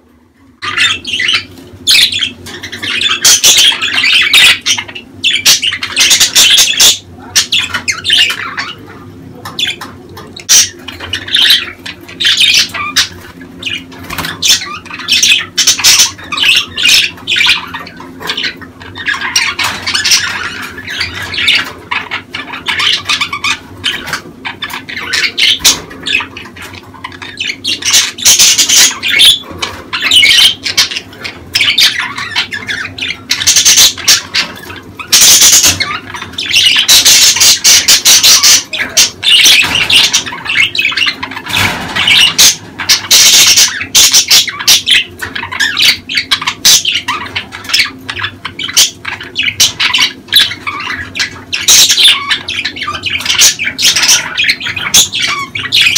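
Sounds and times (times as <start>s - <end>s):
budgerigars chattering and squawking: 0.6s - 55.9s.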